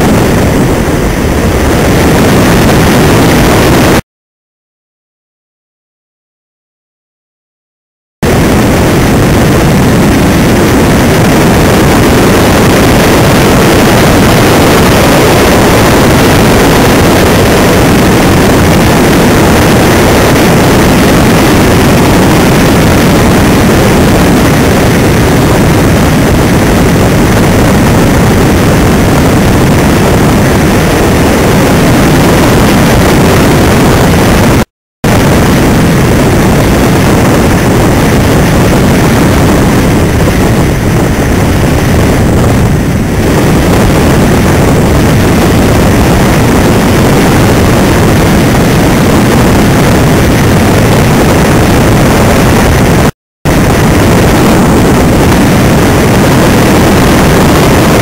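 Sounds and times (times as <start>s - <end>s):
airflow buffeting microphone: 0.0s - 4.0s, 8.2s - 58.0s.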